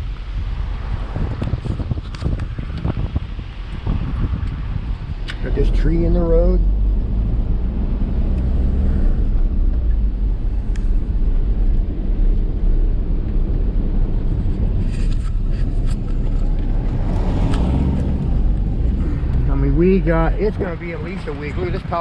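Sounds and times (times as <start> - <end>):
engine and road rumble: 0.0 - 22.0.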